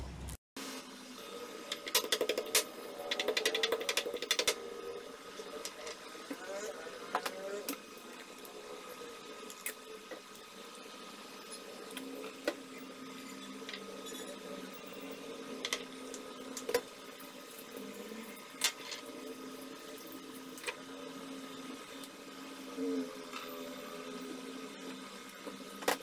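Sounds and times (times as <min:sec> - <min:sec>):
induction cooktop hum: 0:00.0 - 0:26.0.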